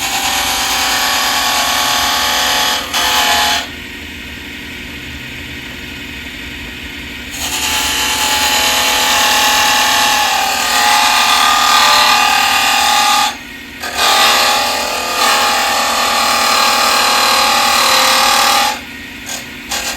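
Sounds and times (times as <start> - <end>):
tool cutting spinning wood: 0.0 - 3.7, 7.3 - 19.9
lathe motor hum: 0.0 - 3.8, 7.3 - 19.9.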